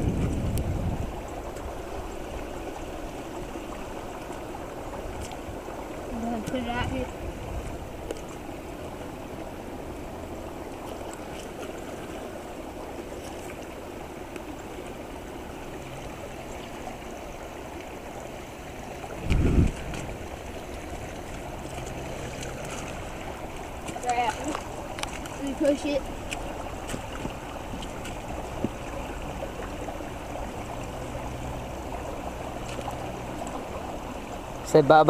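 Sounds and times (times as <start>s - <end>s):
creek water rushing: 0.0s - 35.0s.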